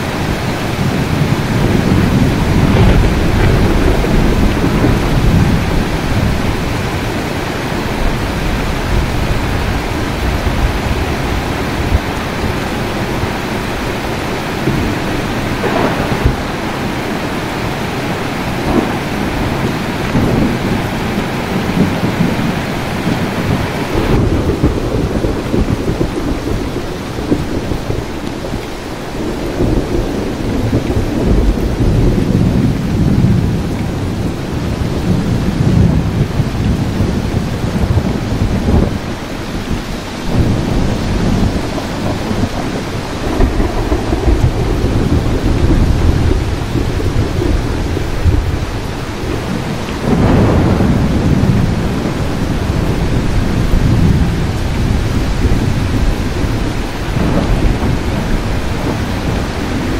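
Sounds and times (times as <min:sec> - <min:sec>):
steady rain: 0:00.0 - 0:59.9
thunder rumbling: 0:00.0 - 0:59.9.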